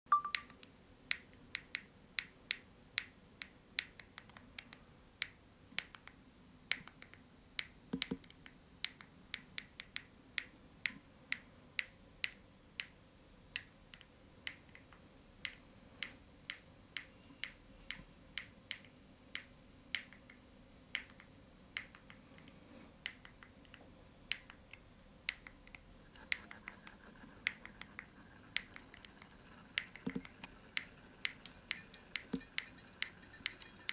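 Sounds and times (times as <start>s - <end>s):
faint low hum: 0.1s - 33.9s.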